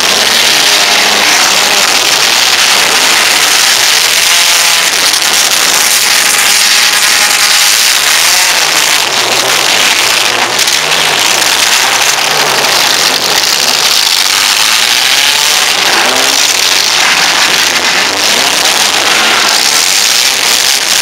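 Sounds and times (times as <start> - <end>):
car engines revving hard: 0.0 - 21.0.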